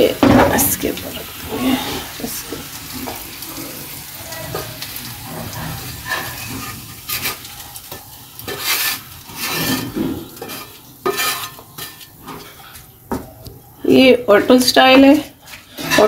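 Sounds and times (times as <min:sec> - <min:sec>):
hot ghee sizzling in pan: 0:00.0 - 0:16.0
stirring in pan: 0:00.0 - 0:16.0.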